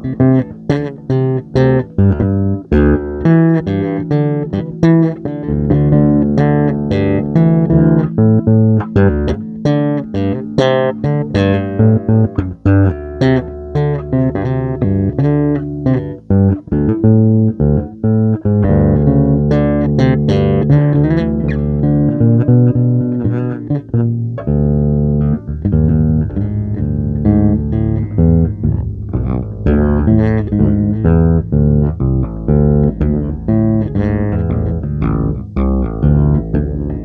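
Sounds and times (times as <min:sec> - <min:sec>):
bass guitar low notes: 0:00.0 - 0:37.0
guitar plucked notes: 0:00.0 - 0:37.0.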